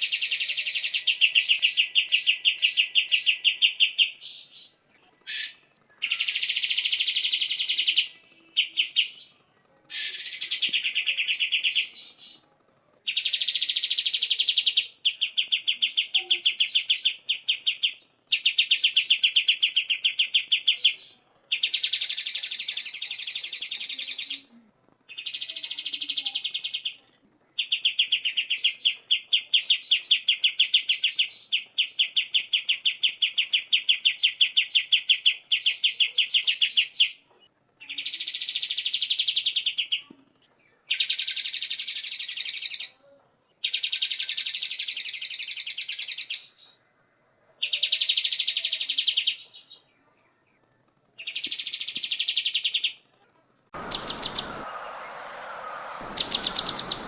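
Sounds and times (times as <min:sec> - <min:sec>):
songbird singing: 0:00.0 - 0:53.1, 0:53.8 - 0:57.0.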